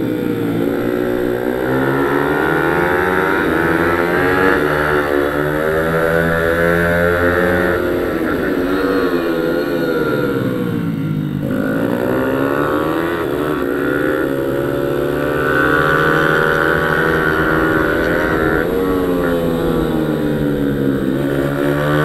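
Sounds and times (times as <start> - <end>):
small motorcycle engine revving: 0.0 - 22.0.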